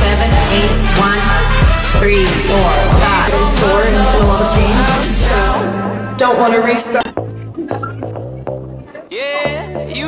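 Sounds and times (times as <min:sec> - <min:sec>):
pop music with singing: 0:00.0 - 0:10.0
steady bass line: 0:00.0 - 0:10.0.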